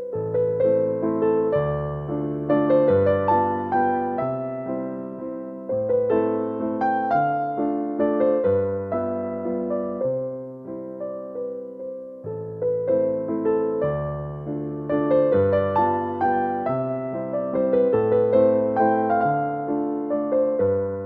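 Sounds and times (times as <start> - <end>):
gentle piano-like keyboard music: 0.0 - 21.0.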